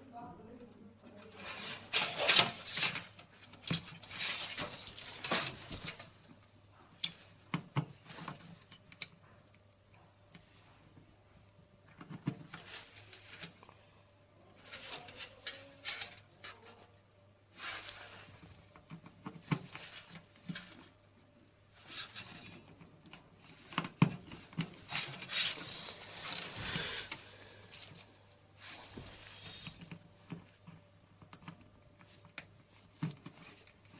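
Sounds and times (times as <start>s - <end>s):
cables and connectors handled: 0.1s - 13.8s, 14.4s - 33.9s.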